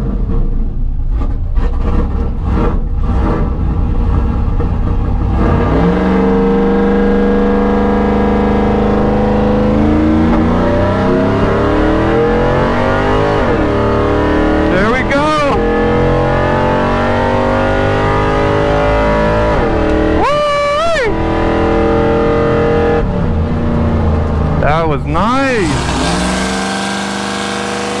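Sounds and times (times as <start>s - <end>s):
race truck engine accelerating: 0.0s - 28.0s.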